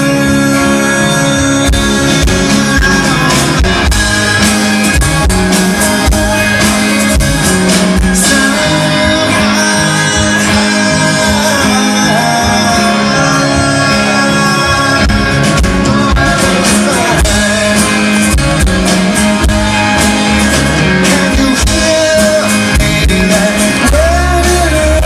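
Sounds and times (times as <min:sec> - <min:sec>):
lead vocal singing: 0:00.0 - 0:25.0
rock band playing: 0:00.0 - 0:25.0.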